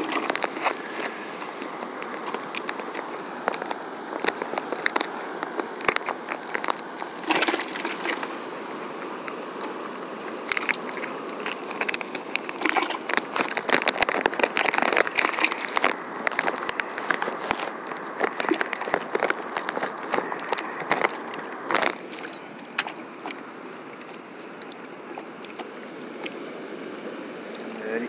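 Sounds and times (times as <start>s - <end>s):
fish flapping in water bucket: 0.0s - 8.4s, 10.4s - 26.4s
splashes and knocks: 0.0s - 8.4s, 10.5s - 26.4s
steady background noise: 0.0s - 28.0s.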